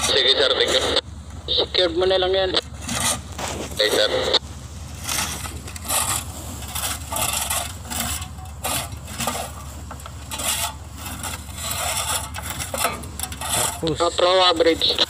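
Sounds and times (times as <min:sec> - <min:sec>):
low engine hum: 0:00.0 - 0:15.0
shovels scraping mud off steel: 0:02.6 - 0:15.0.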